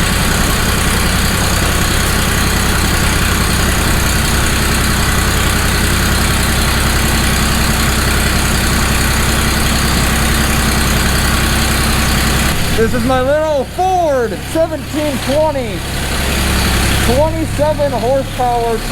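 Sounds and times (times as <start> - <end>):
diesel tractor engine running: 0.0 - 18.9.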